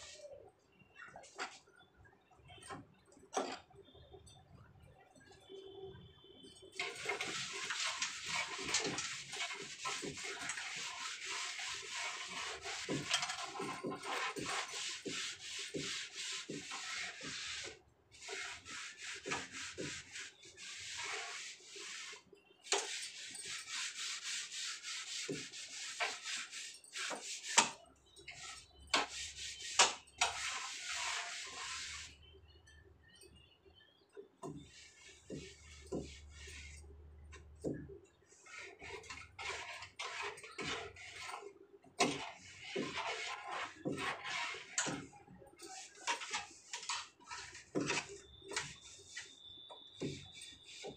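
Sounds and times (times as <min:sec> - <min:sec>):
hand scrubbing a shelf: 0:00.0 - 0:00.4, 0:06.8 - 0:32.2, 0:34.4 - 0:50.9.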